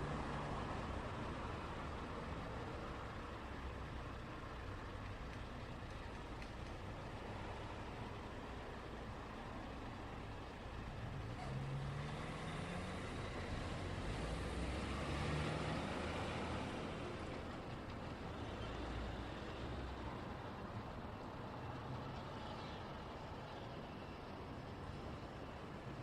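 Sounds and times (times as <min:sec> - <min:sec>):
road traffic going by: 0:00.0 - 0:26.0.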